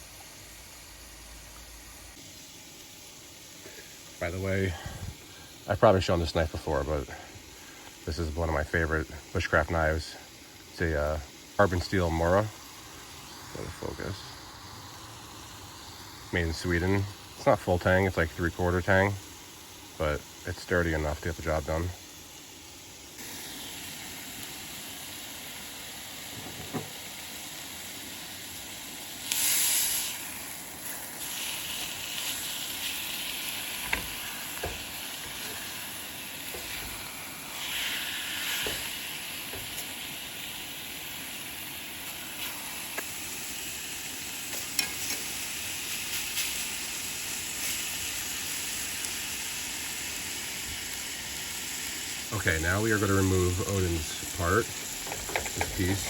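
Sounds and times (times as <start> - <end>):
small crackles of frying fat: 0.0 - 56.0
steak and onions sizzling in skillet: 0.0 - 56.0.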